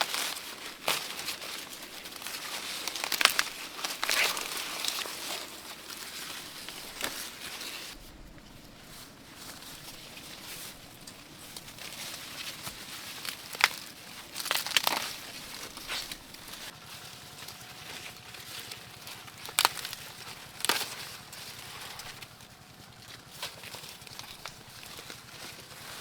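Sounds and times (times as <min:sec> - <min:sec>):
corn stalks snapping: 0:00.0 - 0:26.0
dry corn stalks rustling: 0:00.0 - 0:26.0.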